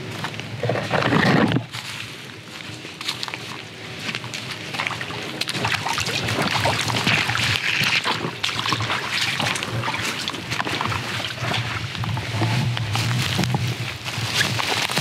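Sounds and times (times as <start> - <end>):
boots splashing through creek: 0.1 - 15.0.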